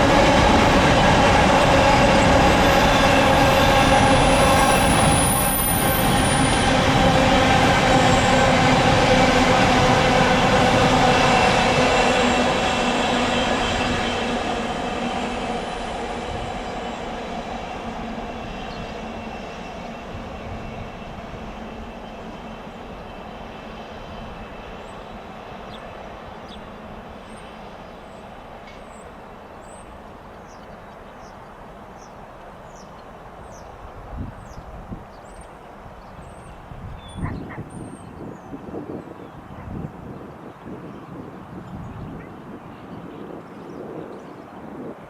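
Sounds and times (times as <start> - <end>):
freight train rumbling past: 0.0 - 45.0.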